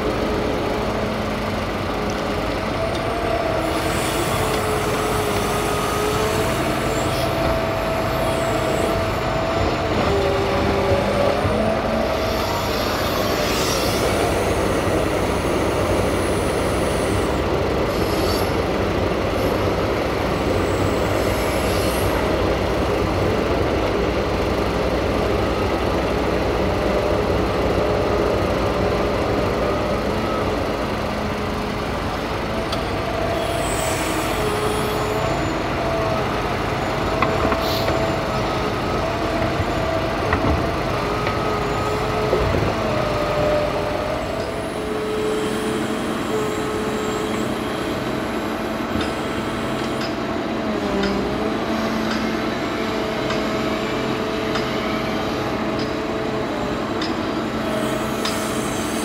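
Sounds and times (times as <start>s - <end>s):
diesel engine under load: 0.0s - 59.0s
hydraulic whine: 2.6s - 23.0s, 26.3s - 59.0s.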